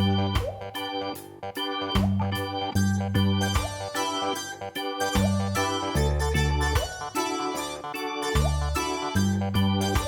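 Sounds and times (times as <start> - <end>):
keyboard tune with steady beat: 0.0 - 10.0.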